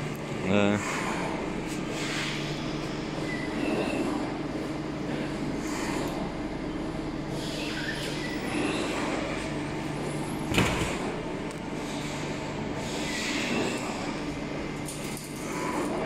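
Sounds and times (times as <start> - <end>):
workshop machinery hum: 0.0 - 16.0.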